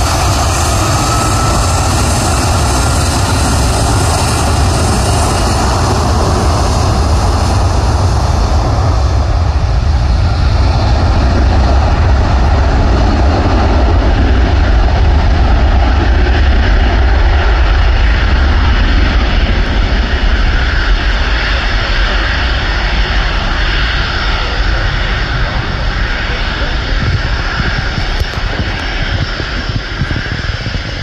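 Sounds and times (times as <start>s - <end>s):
jet engines roaring at take-off: 0.0s - 31.0s.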